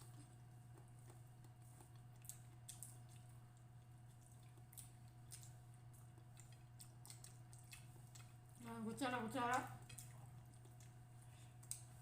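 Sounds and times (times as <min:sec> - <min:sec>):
soft chewing smacks: 0:00.0 - 0:08.6, 0:09.4 - 0:12.0.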